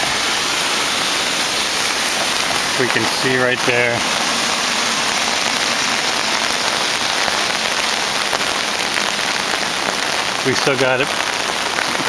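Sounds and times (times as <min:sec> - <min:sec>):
rain on wet pavement: 0:00.0 - 0:12.0.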